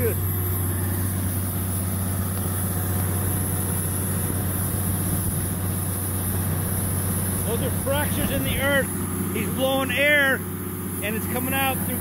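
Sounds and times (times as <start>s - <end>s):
drilling rig droning: 0.0s - 12.0s.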